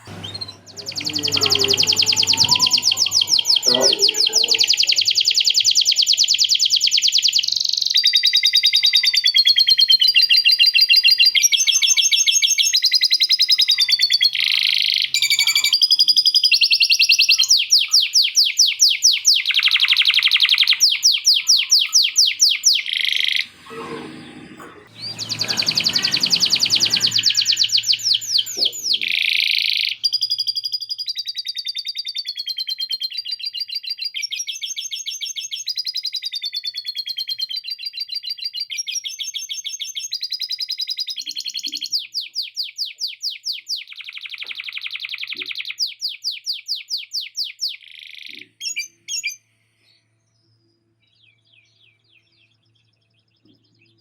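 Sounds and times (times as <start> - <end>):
canary singing trills: 0.0 - 24.0, 24.7 - 49.6.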